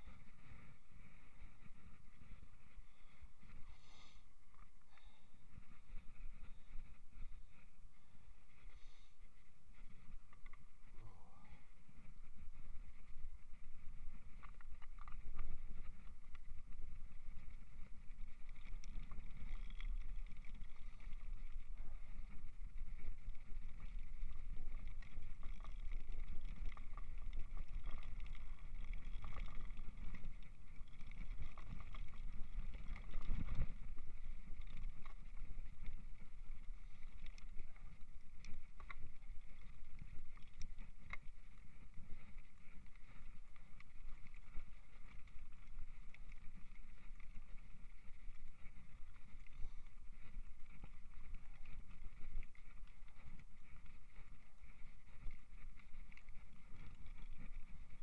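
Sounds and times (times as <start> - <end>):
bike tyres rumbling: 0.0 - 58.0.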